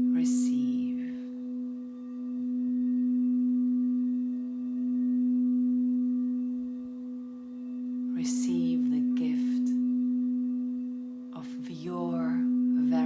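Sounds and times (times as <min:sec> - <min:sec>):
crystal singing bowl tone: 0:00.0 - 0:13.0.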